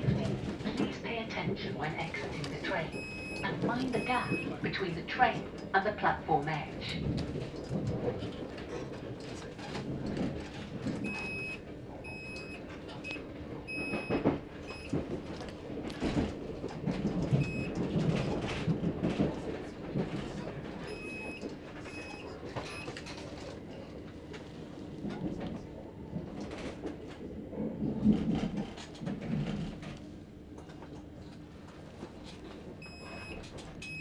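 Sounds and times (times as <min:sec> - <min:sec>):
train rumble and clatter on track: 0:00.0 - 0:34.0.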